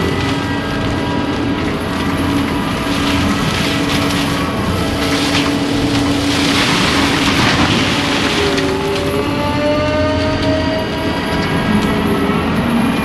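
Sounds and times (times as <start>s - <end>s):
diesel engine hum: 0.0s - 13.0s
mulcher grinding brush: 0.0s - 13.0s.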